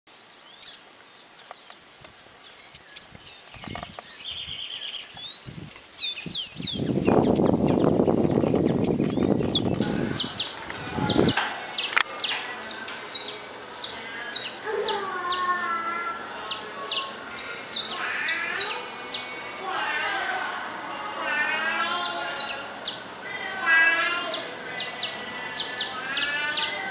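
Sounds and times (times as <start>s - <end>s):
finch singing chirps: 0.2s - 19.5s, 21.3s - 26.9s.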